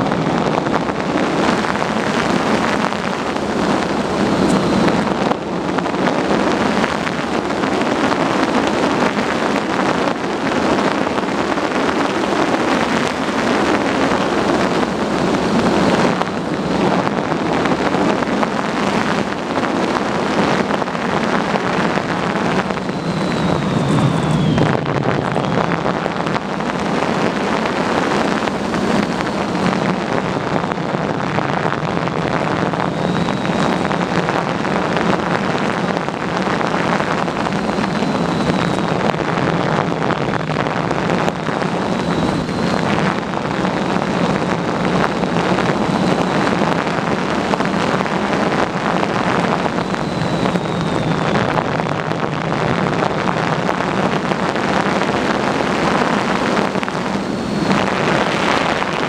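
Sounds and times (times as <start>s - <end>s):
electric motor and propeller buzz: 0.0s - 59.0s
faint high whine: 0.0s - 59.0s
wind rushing over microphone: 0.0s - 59.0s.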